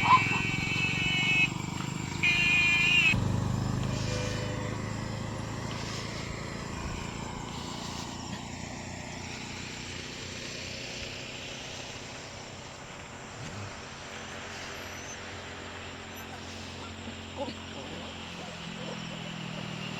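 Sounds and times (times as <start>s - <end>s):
engine running: 0.0s - 19.9s.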